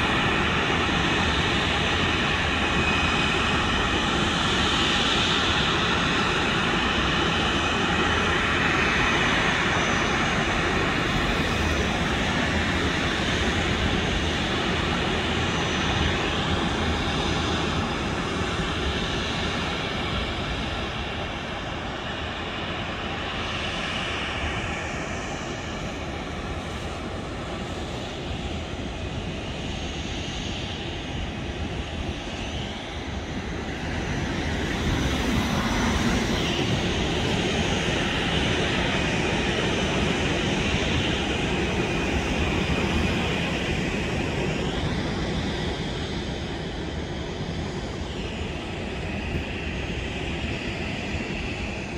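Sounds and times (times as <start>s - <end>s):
jet engines running: 0.0s - 51.9s.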